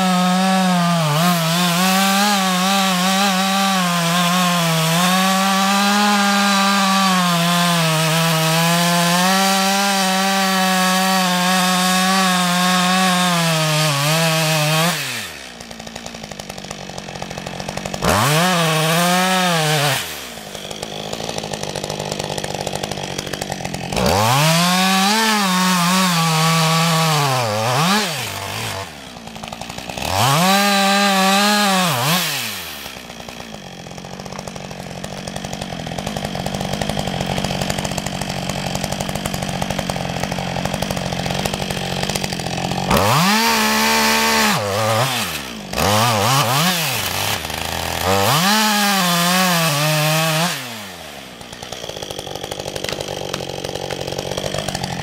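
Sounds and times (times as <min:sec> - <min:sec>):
chainsaw cutting log: 0:00.0 - 0:55.0
chainsaw idling and revving: 0:00.0 - 0:55.0.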